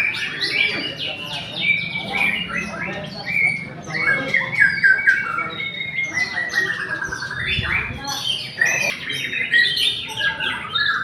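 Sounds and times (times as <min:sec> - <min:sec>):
songbirds whistling and trilling: 0:00.0 - 0:11.0.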